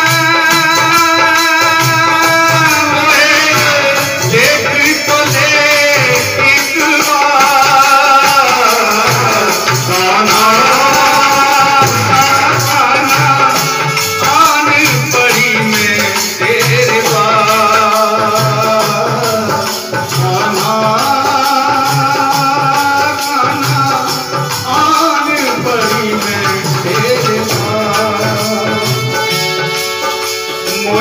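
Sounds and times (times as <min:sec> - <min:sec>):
hand drum beat: 0:00.0 - 0:31.0.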